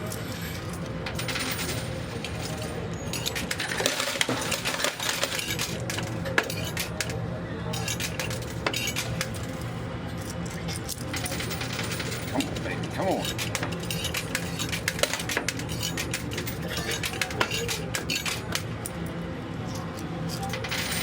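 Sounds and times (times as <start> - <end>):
coins clinking in arcade machine: 0.0 - 21.0.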